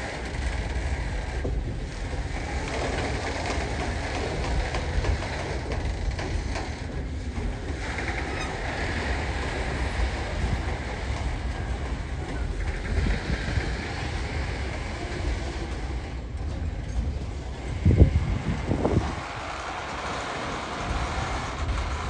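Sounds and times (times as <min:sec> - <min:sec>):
clicking train wheels: 0:00.0 - 0:22.0
freight train rolling past: 0:00.0 - 0:22.0
steel wheels rumbling on rails: 0:00.0 - 0:22.0.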